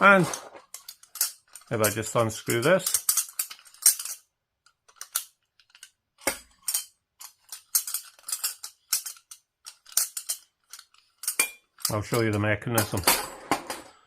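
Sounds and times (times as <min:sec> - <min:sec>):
metallic clicks and scrapes: 0:00.0 - 0:13.0.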